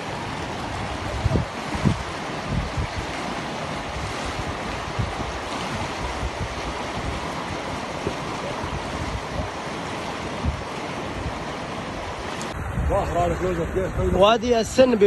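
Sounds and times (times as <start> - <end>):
flowing water: 0.0 - 15.0
wind: 0.0 - 15.0
wind buffeting microphone: 0.0 - 15.0.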